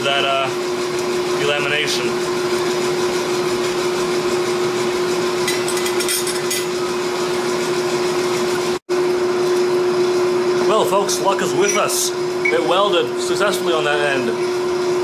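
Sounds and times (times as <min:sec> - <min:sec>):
shop machinery hum: 0:00.0 - 0:15.0.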